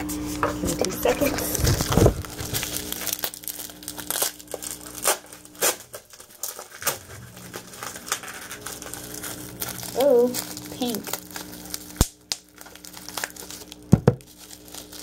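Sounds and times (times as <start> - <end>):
packaging crinkling and tearing: 0.8 - 15.0
sharp packaging crackles: 0.9 - 15.0.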